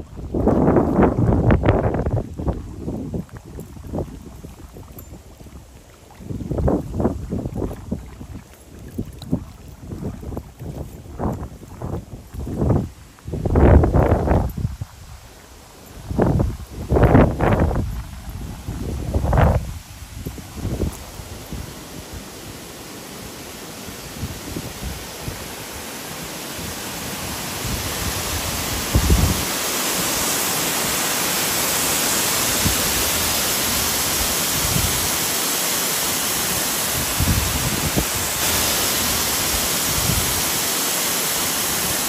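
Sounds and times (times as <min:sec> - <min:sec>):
wind buffeting microphone: 0:00.0 - 0:22.6, 0:23.9 - 0:35.4, 0:36.3 - 0:42.0
water rushing down spillway: 0:00.0 - 0:42.0.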